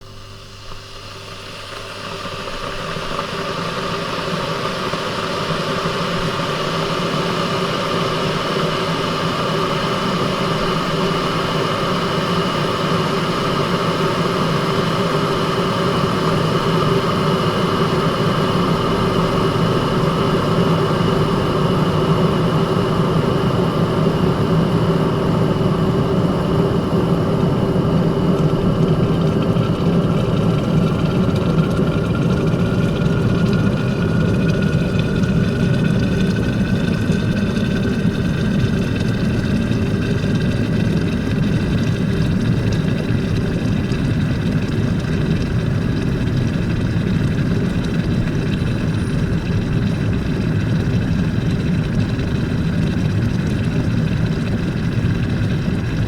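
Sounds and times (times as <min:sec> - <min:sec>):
electric kettle heating water: 0:00.0 - 0:56.0.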